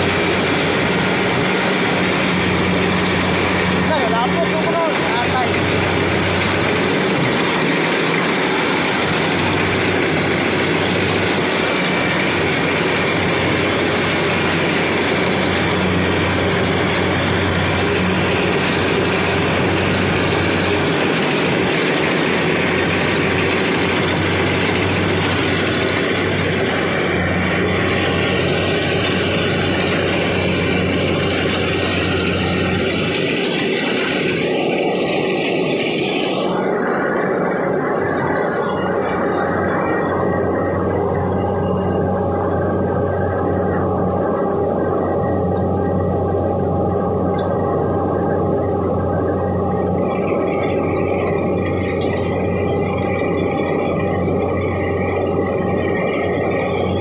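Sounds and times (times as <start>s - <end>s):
constant low hum: 0.0s - 57.0s
farm machine engine running: 0.0s - 57.0s.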